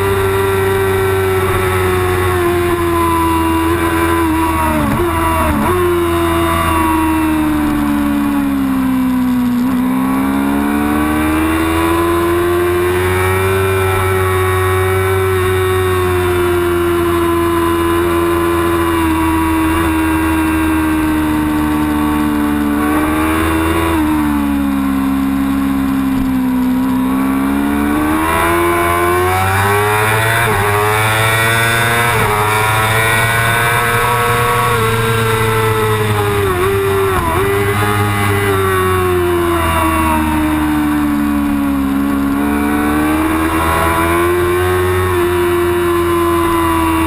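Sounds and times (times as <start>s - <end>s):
sport bike engine running hard: 0.0s - 47.0s.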